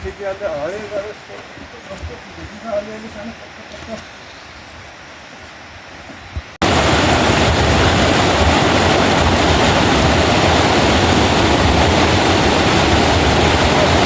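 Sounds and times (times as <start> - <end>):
fast mountain river rushing: 0.0 - 14.0.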